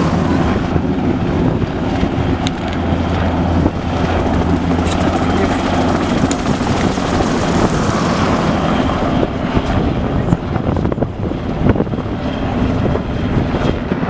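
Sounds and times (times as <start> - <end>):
aircraft flying overhead: 0.0 - 14.0.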